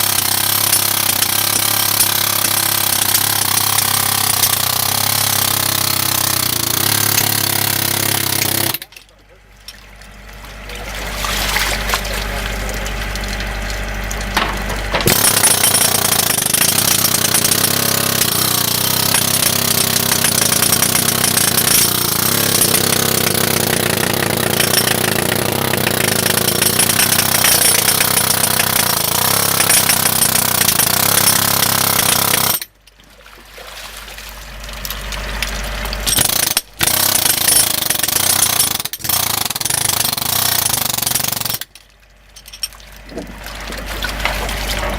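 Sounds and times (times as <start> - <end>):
jackhammer hammering: 0.0 - 9.0, 11.7 - 32.8, 34.8 - 41.8.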